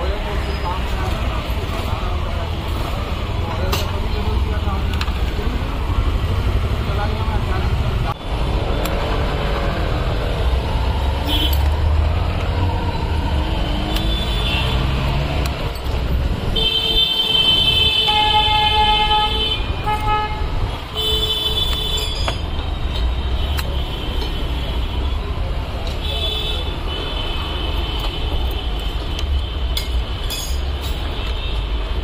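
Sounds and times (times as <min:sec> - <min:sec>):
street traffic rumbling: 0:00.0 - 0:32.0.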